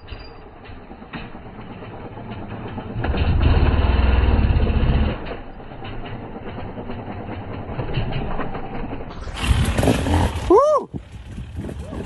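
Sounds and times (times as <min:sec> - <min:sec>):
scattered clatter: 0:00.0 - 0:11.9
motocross bike engine running: 0:00.0 - 0:12.0.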